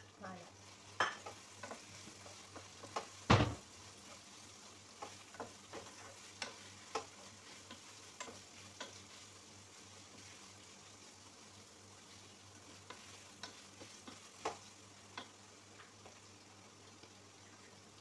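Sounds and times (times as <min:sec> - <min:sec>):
faint frying sizzle: 0:00.0 - 0:18.0.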